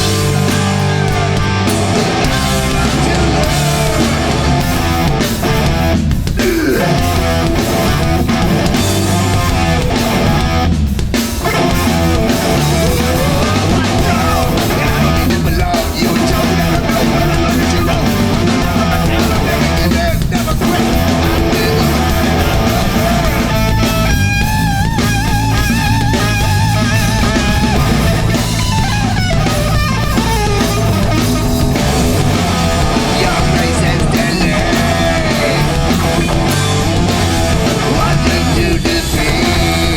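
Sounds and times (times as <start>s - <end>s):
punk band playing live: 0.0s - 39.9s.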